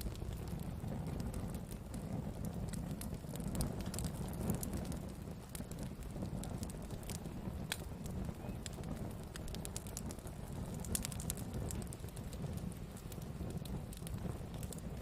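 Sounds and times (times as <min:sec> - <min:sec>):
burning wood crackling and popping: 0:00.0 - 0:15.0
campfire flame rumble: 0:00.0 - 0:15.0.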